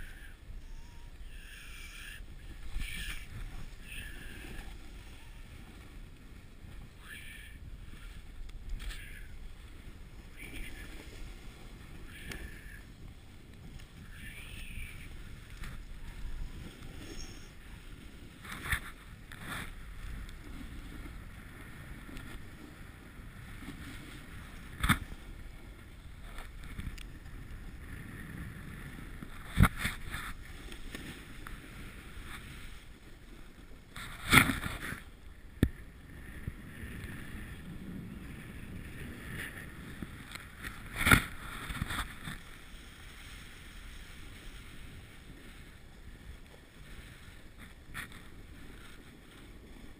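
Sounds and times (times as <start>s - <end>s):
snowboard sliding over snow: 2.0s - 49.9s.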